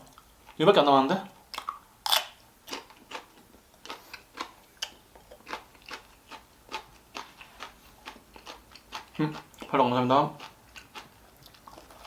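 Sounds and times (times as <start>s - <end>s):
mouth chewing with wet clicks: 1.5s - 12.0s.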